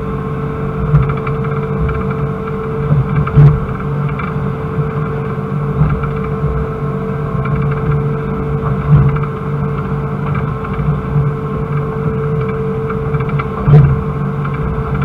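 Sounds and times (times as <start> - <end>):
excavator engine rumble: 0.0 - 15.0
hydraulic whine: 0.0 - 15.0.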